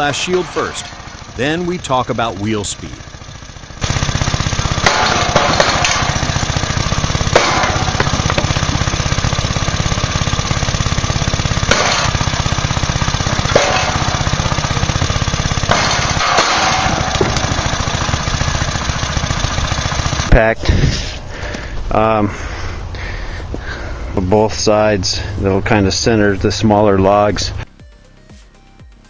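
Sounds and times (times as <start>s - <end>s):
engine running with fast pulse: 0.0s - 29.0s.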